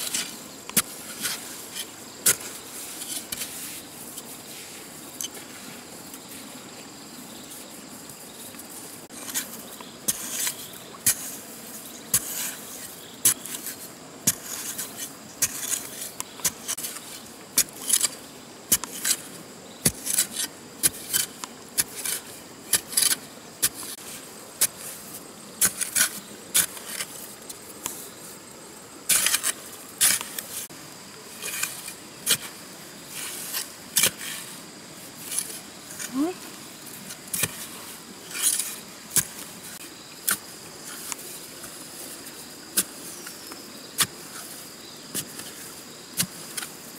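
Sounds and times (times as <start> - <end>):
digging tool scraping wet mud: 0.0 - 5.7, 9.1 - 28.1, 29.0 - 46.8.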